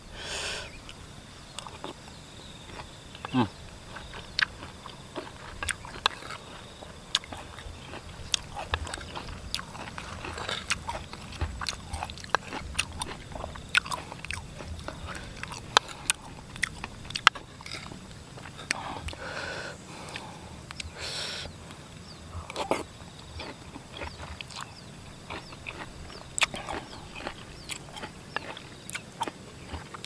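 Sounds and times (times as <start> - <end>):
person chewing with wet clicks: 0.8 - 2.0, 2.6 - 19.3, 20.0 - 21.0, 22.4 - 30.0.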